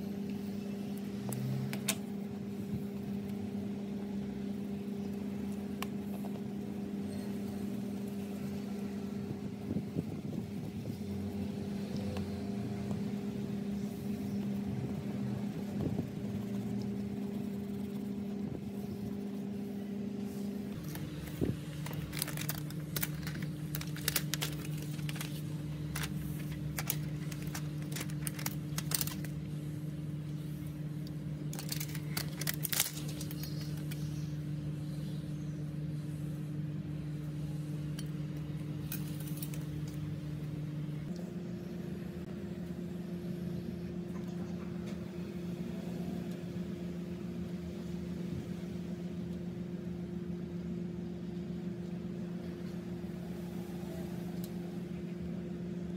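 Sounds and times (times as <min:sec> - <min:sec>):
low machine hum: 0:00.0 - 0:55.9.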